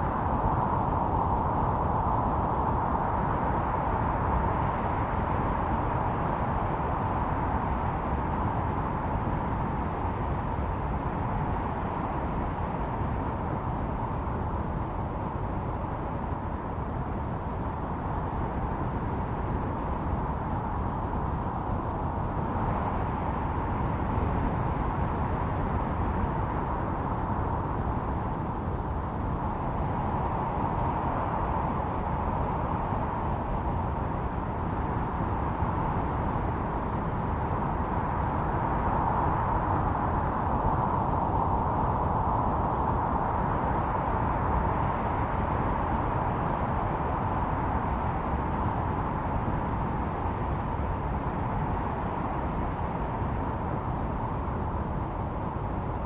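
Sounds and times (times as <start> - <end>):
howling snowstorm wind: 0.0 - 56.0.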